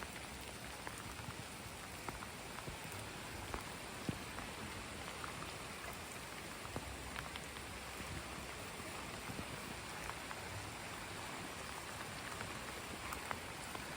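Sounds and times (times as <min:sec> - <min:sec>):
drips ticking on surfaces: 0:00.0 - 0:13.9
rain falling: 0:00.0 - 0:13.9.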